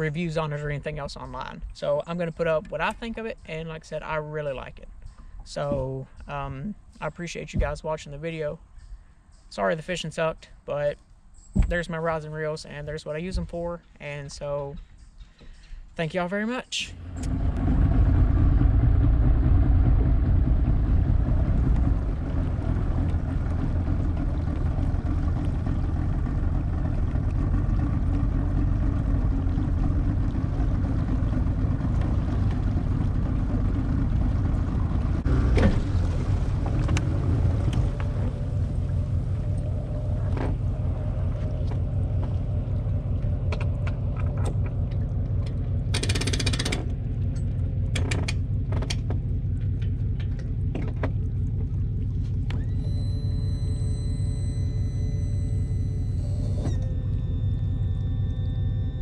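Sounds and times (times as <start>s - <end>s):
boat motor rumbling: 0.0s - 59.0s.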